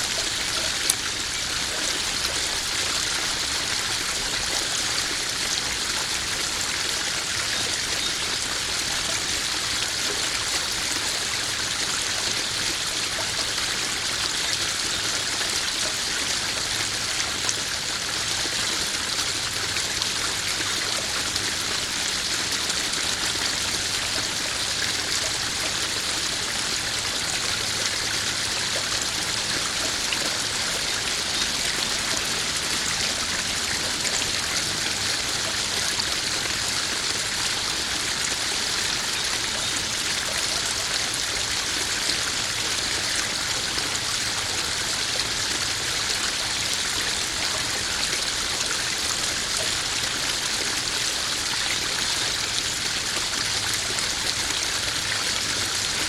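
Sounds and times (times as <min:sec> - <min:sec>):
water splashing over rocks: 0:00.0 - 0:56.0.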